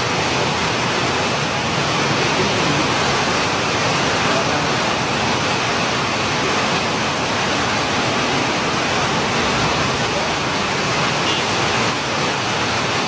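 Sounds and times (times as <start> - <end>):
rushing floodwater: 0.0 - 13.0.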